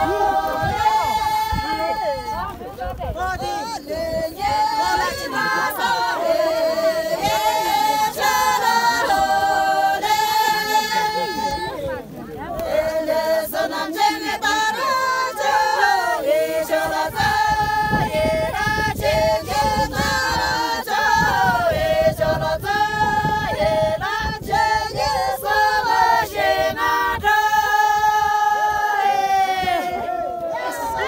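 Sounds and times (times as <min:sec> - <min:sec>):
women singing in unison: 0:00.0 - 0:31.0.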